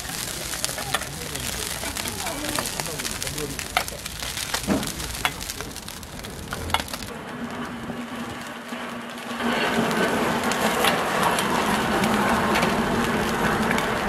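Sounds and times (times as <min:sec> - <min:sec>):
food sizzling on griddle: 0:00.0 - 0:14.0.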